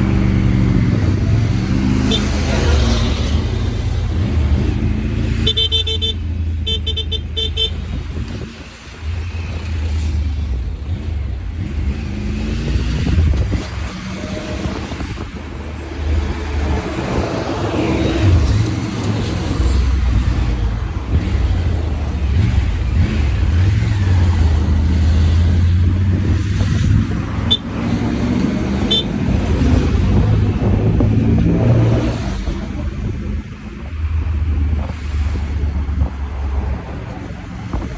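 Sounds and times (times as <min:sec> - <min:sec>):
road and wind noise: 0:00.0 - 0:37.9.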